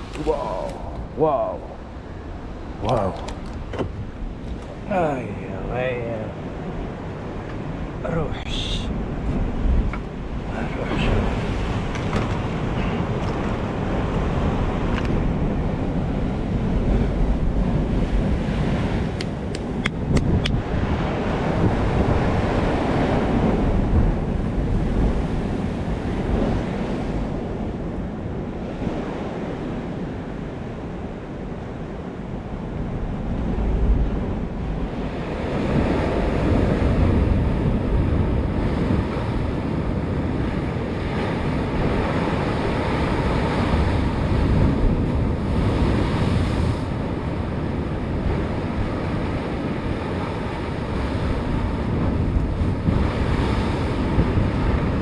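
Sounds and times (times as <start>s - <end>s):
sea waves washing on shore: 0.0s - 55.0s
wind buffeting microphone: 0.0s - 55.0s.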